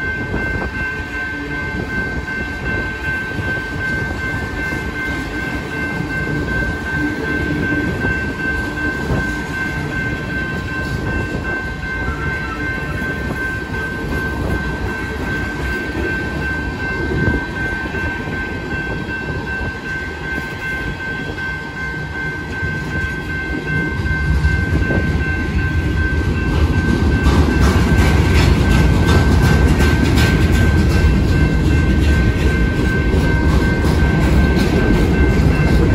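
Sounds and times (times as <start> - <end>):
high ringing tone: 0.0 - 35.9
train wheels rumbling on rail: 0.0 - 35.9.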